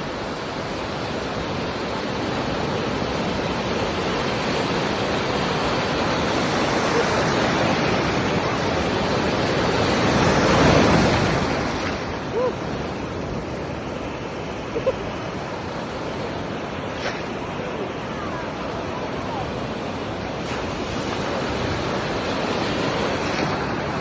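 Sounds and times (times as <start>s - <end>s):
ocean surf washing on beach: 0.0s - 24.0s.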